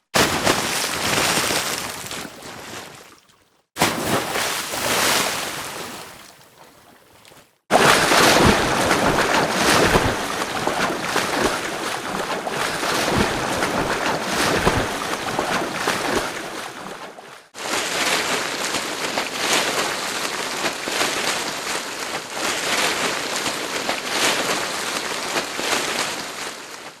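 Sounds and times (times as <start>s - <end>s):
water splashing from swimming: 0.0s - 21.8s.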